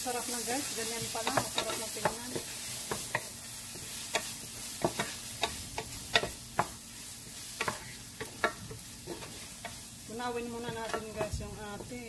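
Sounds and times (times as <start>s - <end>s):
onions and tomatoes sizzling: 0.0s - 12.0s
wooden spoon scraping a pan: 0.2s - 12.0s.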